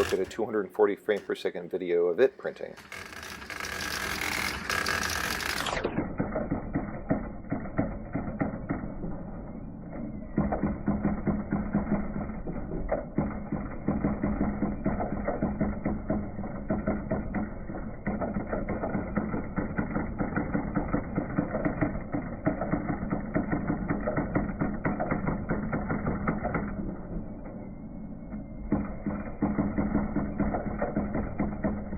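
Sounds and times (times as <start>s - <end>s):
printer hammer rapid clatter: 0.0s - 0.5s, 2.6s - 9.3s, 10.4s - 27.0s, 28.7s - 31.9s.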